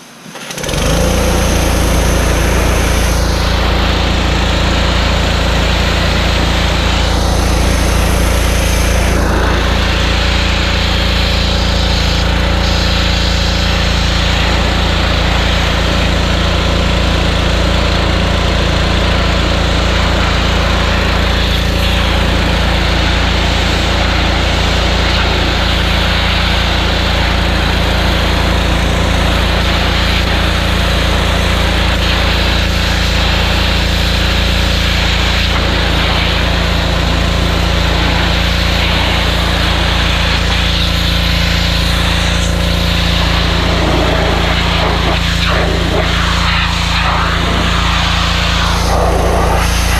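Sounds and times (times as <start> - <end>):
pressure washer engine running: 0.0 - 49.9.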